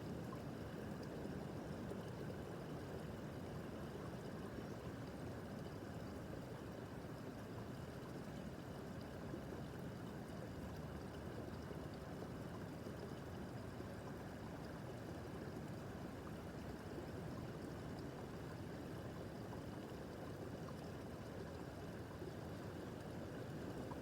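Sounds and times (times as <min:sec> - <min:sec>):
brook babbling over stones: 0:00.0 - 0:24.0.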